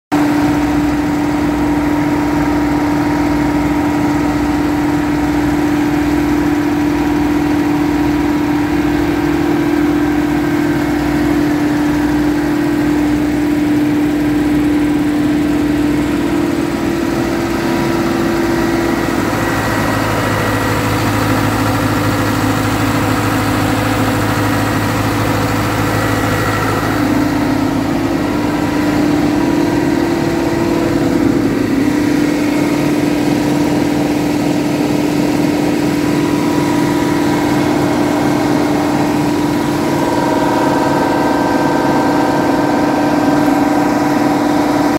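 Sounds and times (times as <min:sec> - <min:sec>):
deep steady hum: 0:00.2 - 0:44.9
diesel engine drone: 0:00.2 - 0:44.9
low pulsing throb: 0:00.4 - 0:44.9.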